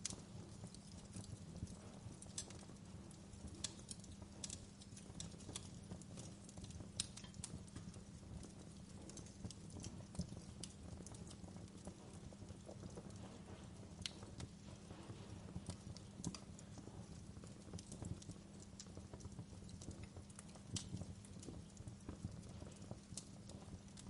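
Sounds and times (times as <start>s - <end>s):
fire crackling and popping: 0.0s - 24.0s
low rumble of fire: 0.0s - 24.0s.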